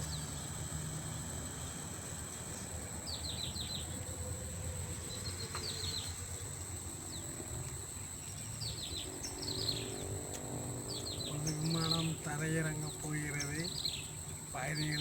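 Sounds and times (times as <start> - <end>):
birds chirping: 0.0 - 15.0
high-pitched insect whine: 0.0 - 15.0
low outdoor rumble: 0.0 - 15.0.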